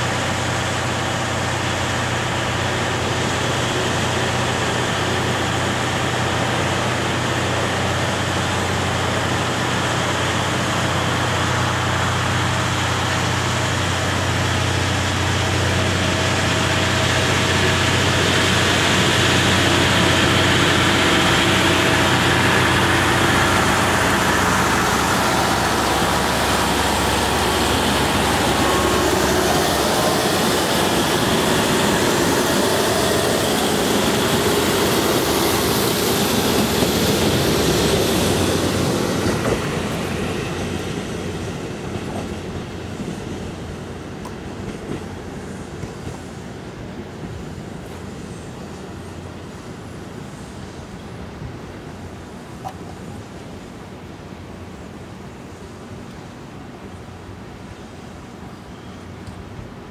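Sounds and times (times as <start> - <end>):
diesel train engines: 0.0 - 59.9.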